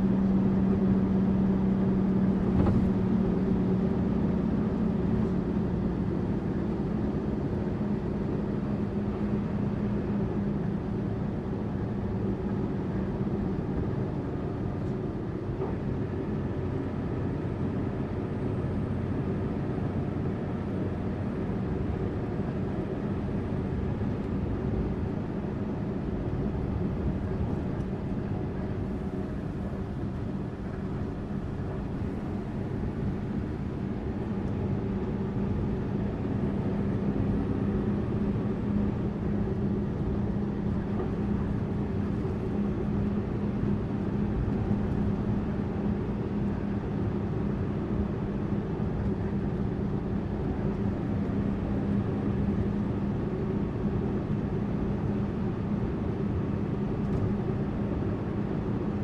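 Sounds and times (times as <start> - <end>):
coach engine and road noise: 0.0 - 59.0.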